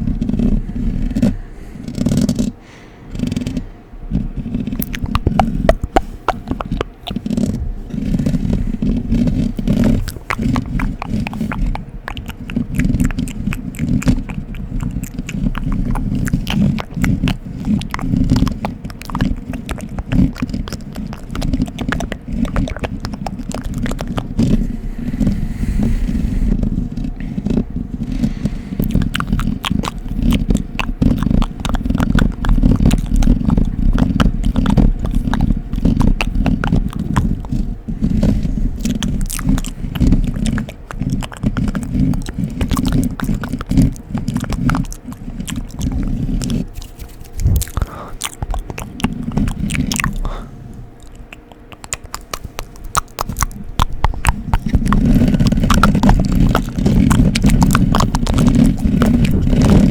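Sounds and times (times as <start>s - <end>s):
close-miked scratching: 0.0s - 59.9s
mouth sounds: 0.0s - 59.9s.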